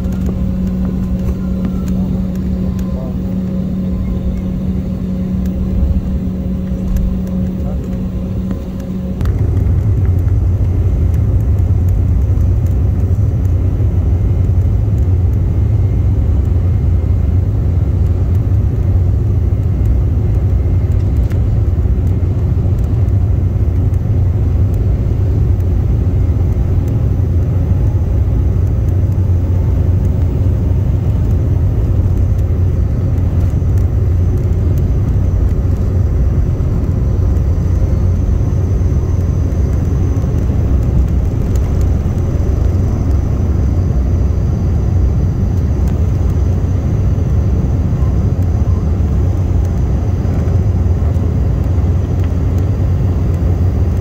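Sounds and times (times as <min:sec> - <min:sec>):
faint high engine whine: 0:00.0 - 0:54.0
low engine and wheel rumble: 0:00.0 - 0:54.0.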